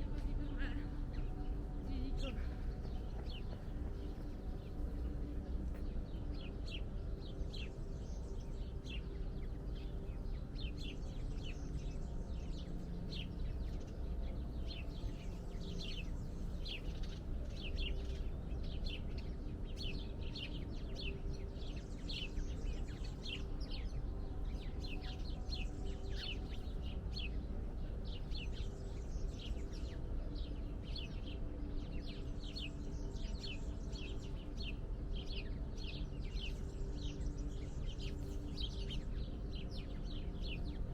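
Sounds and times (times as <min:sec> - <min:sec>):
low background rumble: 0:00.0 - 0:40.9
small birds chirping: 0:00.0 - 0:40.9.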